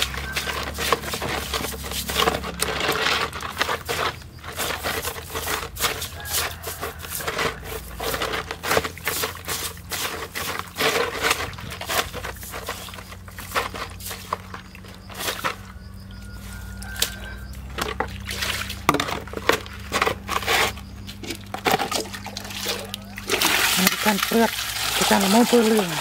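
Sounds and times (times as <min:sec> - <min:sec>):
hands scrubbing snake: 0:00.0 - 0:26.0
wet splashing in water basin: 0:00.0 - 0:26.0.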